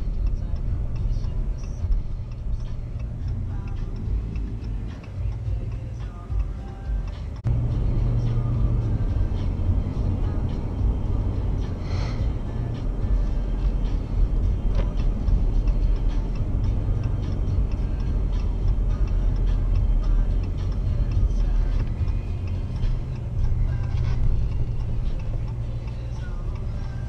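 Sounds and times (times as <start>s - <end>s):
road and engine noise in cab: 0.0s - 27.0s.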